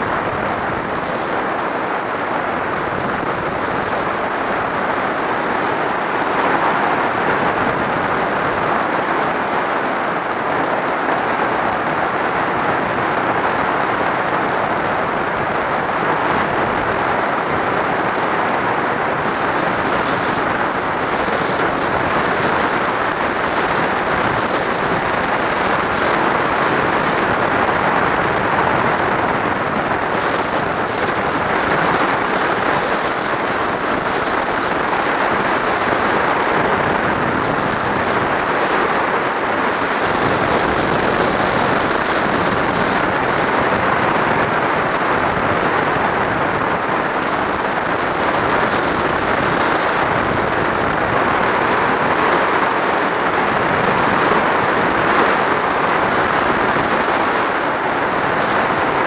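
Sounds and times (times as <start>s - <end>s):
motorcycle road noise: 0.0s - 59.0s
wind rush: 0.0s - 59.0s.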